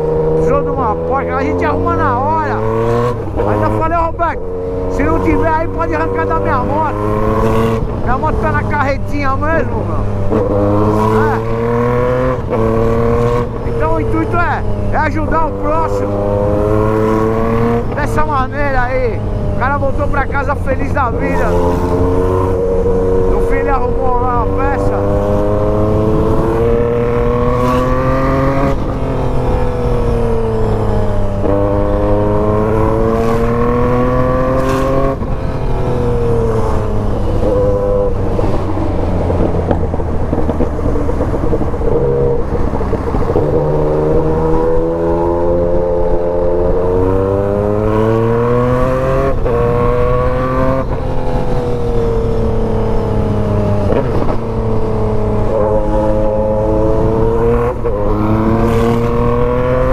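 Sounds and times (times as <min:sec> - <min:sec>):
motorcycle engine accelerating through gears: 0:00.0 - 0:59.9.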